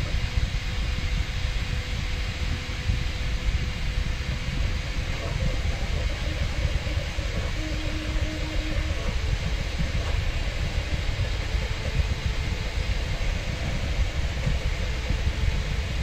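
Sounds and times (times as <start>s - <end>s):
faint constant hum: 0.0s - 16.0s
fan hiss: 0.0s - 16.0s
fluttering low rumble: 0.0s - 16.0s
wavering stepper motor tones: 0.0s - 16.0s.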